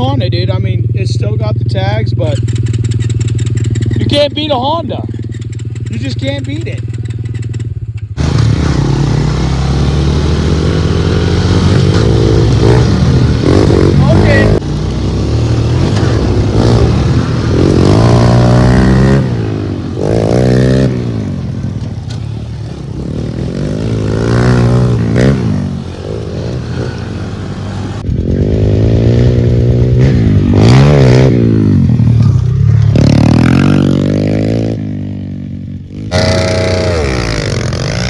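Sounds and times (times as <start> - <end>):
pit bike engine revving: 0.0 - 38.0.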